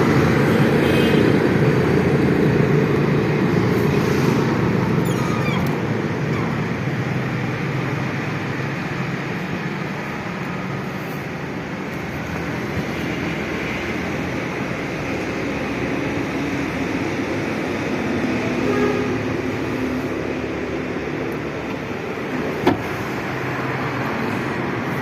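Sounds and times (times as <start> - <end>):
vehicle rumble with hiss: 0.0 - 25.0.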